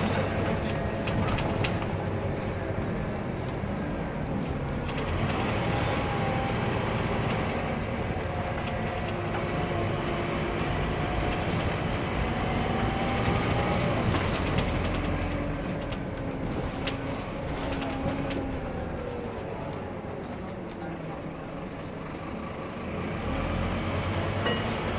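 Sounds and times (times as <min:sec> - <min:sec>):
bus engine running: 0:00.0 - 0:24.9.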